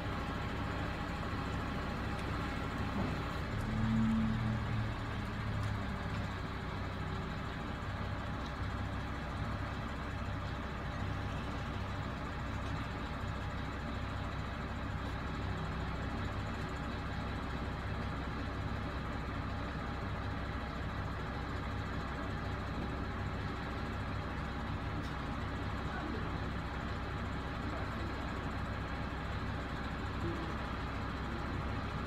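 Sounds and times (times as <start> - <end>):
truck diesel engine throbbing: 0.0 - 32.0.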